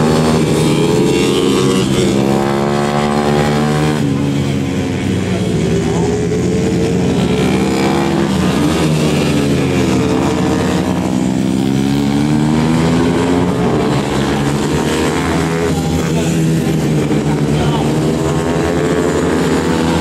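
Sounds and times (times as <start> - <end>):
racing motorcycles revving: 0.0 - 20.0.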